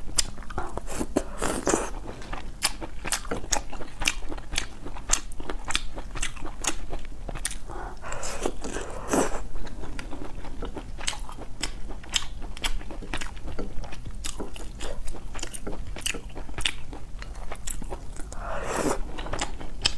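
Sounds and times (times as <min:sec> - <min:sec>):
chewing and crunching food: 0:00.0 - 0:19.9.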